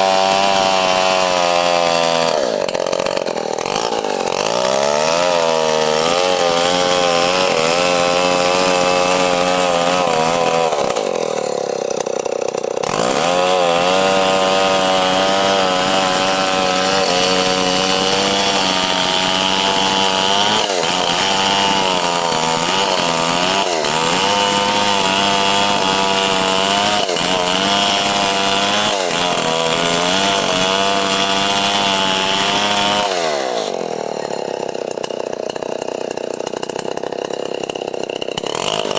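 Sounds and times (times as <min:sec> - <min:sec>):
chainsaw cutting through a log: 0:00.0 - 0:38.9.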